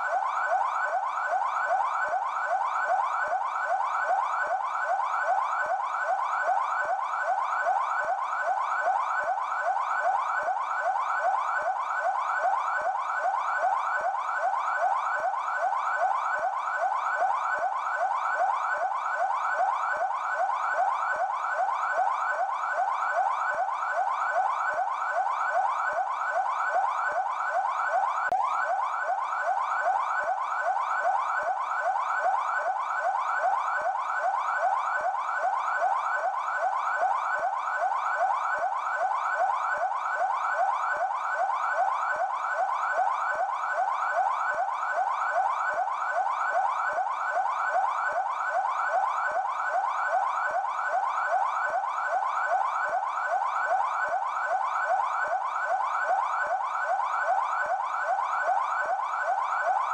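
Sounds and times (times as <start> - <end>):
police car siren yelping: 0.0 - 59.9.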